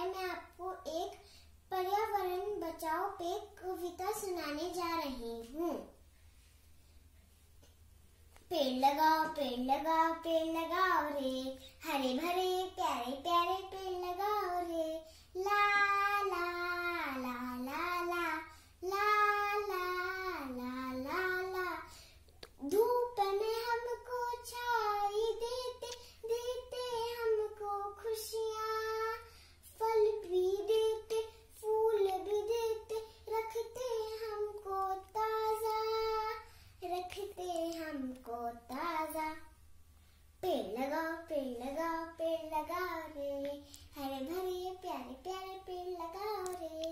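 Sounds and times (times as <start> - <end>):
girl singing unaccompanied: 0.0 - 6.1, 8.4 - 46.9.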